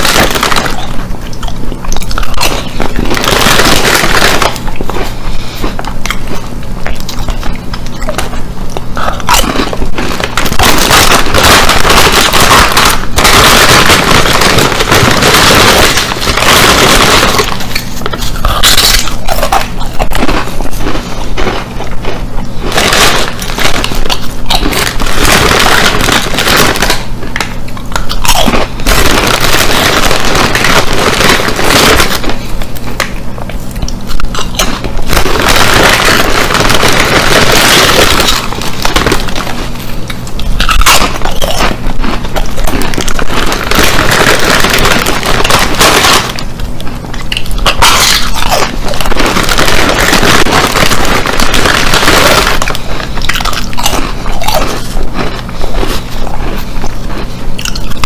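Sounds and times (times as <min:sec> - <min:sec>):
potato chips crunching and chewing: 0:00.0 - 0:58.0.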